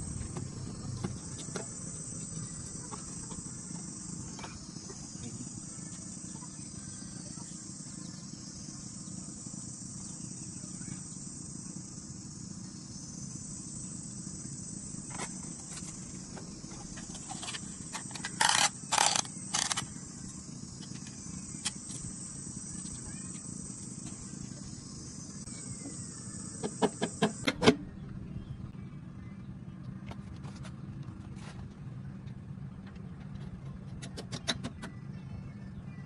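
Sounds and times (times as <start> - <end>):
insects chirring: 0.0 - 29.7
low hum: 0.0 - 34.0.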